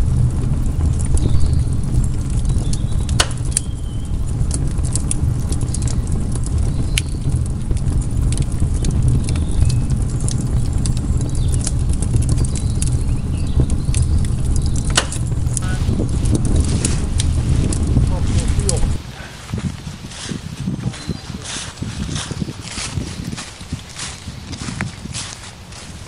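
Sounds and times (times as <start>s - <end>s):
sharp pops from burning logs: 0.0s - 20.4s, 21.0s - 26.0s
campfire crackling: 0.0s - 26.0s
low rumble: 0.0s - 26.0s.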